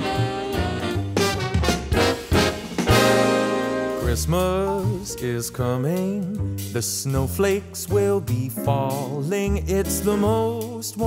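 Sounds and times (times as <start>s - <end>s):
swing music with bass beat: 0.0s - 11.0s.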